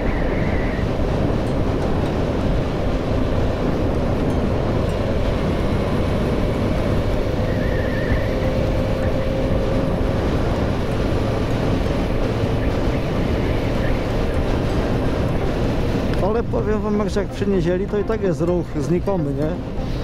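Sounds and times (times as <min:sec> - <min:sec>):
wind rush on microphone: 0:00.0 - 0:20.0
motorcycle engine running: 0:00.1 - 0:16.2.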